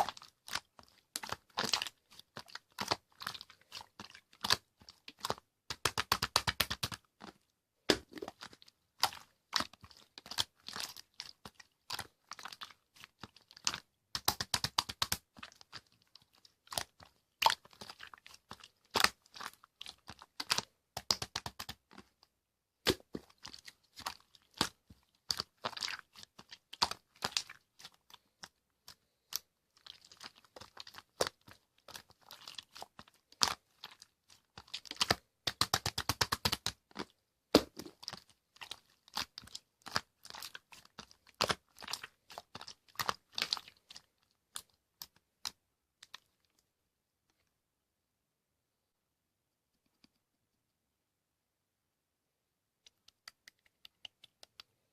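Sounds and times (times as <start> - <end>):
slime being squished by hand: 0.0 - 22.2, 22.8 - 46.5.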